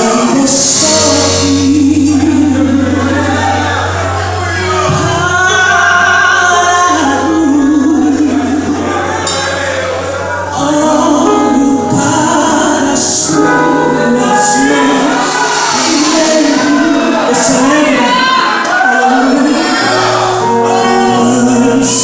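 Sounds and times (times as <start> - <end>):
instrumental backing with bass: 0.0 - 22.0
people singing gospel song: 0.0 - 22.0.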